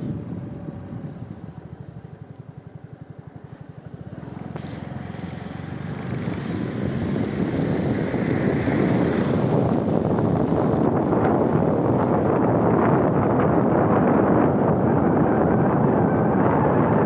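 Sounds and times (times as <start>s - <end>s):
pulsing engine rumble: 0.0s - 17.0s
wind rumbling on microphone: 0.0s - 17.0s.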